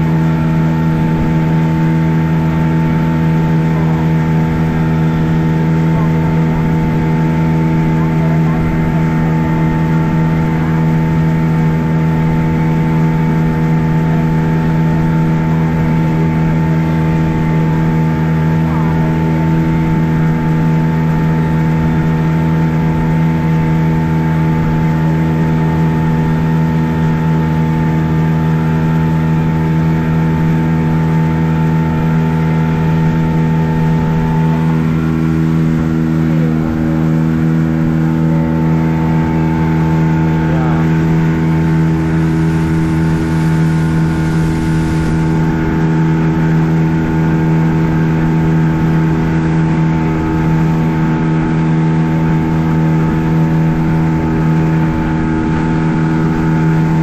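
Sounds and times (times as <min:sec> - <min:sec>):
outboard motor humming: 0:00.0 - 0:57.0.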